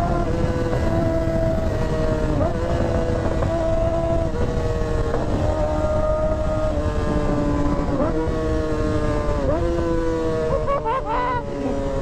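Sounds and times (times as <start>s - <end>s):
vehicle engine running hard: 0.0s - 12.0s.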